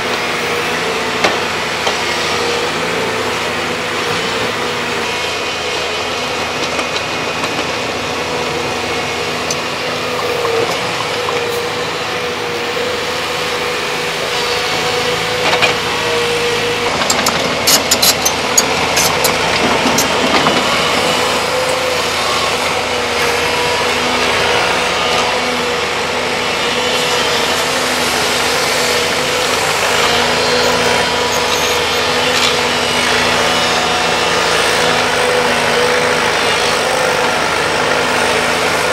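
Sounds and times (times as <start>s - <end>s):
excavator diesel engines running: 0.0s - 38.9s.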